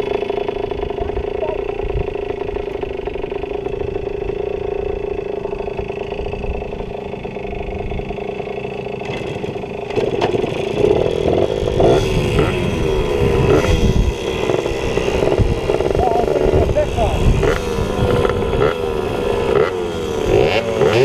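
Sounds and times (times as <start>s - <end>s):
pit bike engines revving: 0.0s - 21.0s.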